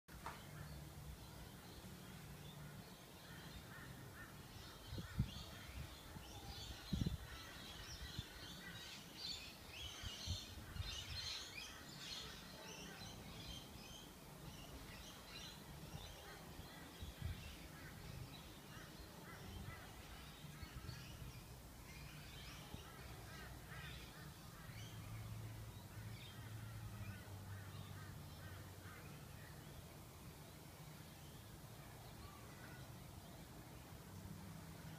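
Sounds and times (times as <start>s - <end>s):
faint birds chirping: 0.1s - 34.9s.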